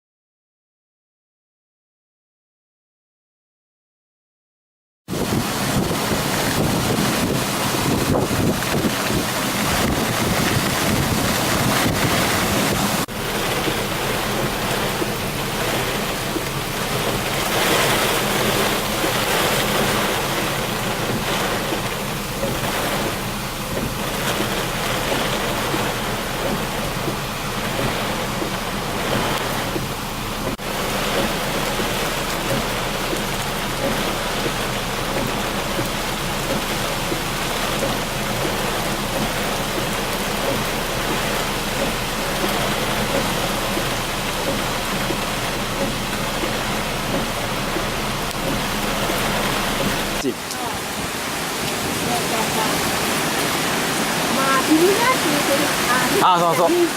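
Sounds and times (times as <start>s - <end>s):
heavy rain downpour: 5.1s - 56.9s.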